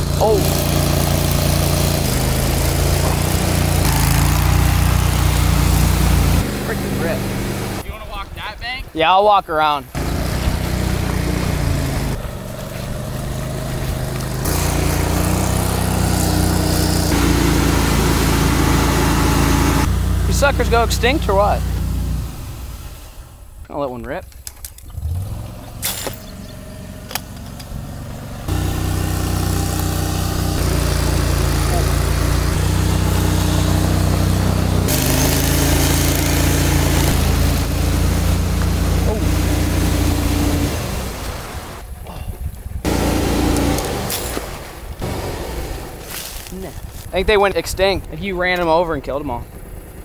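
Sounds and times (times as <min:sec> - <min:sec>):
engine droning: 0:00.0 - 0:08.1, 0:09.9 - 0:50.0.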